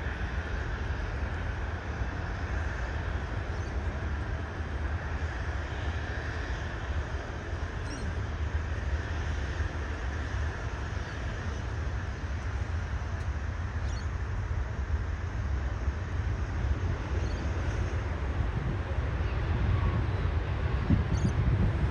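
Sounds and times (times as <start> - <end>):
distant jet engine rumble: 0.0 - 21.9
wind buffeting microphone: 0.0 - 21.9.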